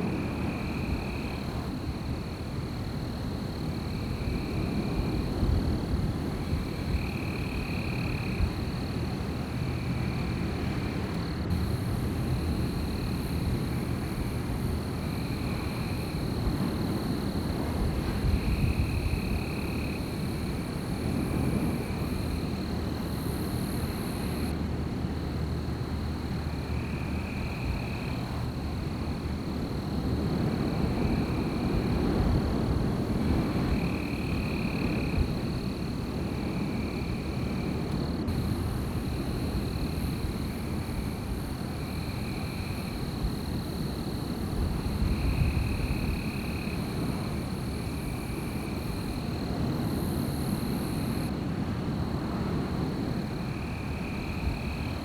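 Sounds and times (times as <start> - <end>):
wind gusting through forest: 0.0 - 55.0.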